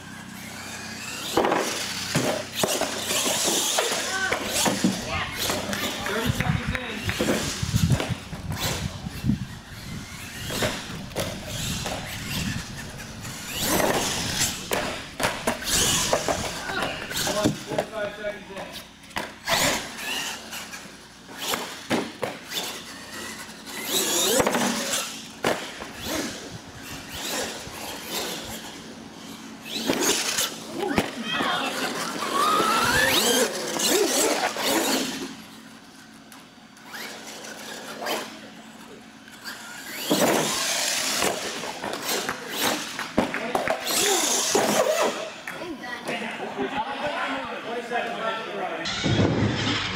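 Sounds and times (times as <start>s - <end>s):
toy truck motor whining: 0.0s - 17.8s, 18.7s - 43.1s, 43.8s - 45.4s.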